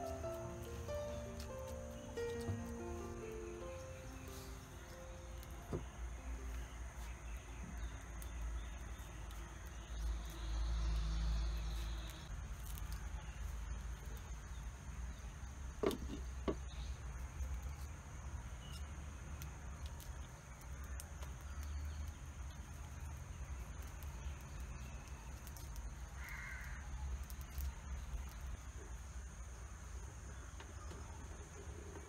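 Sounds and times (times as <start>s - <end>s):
faint insect chirring: 0.0s - 32.0s.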